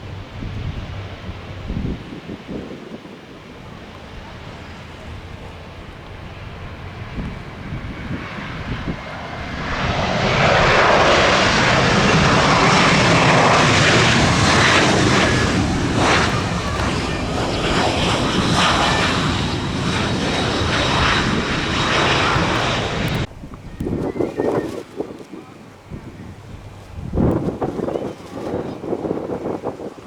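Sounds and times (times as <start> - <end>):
airliner engine roar: 0.0 - 30.0.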